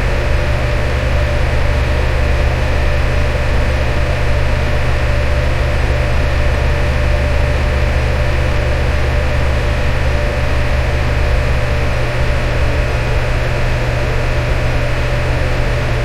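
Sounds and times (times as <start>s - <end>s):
fan running: 0.0s - 16.0s.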